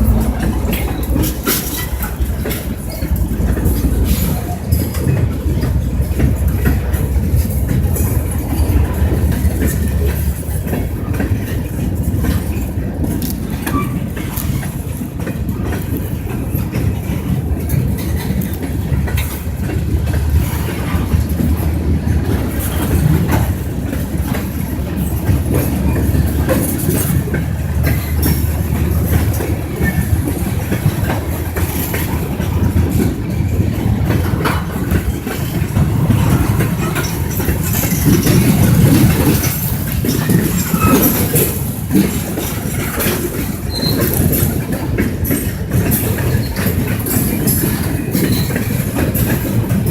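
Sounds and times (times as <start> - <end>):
train rumbling past: 0.0 - 49.9
train wheel clicks: 0.0 - 49.9.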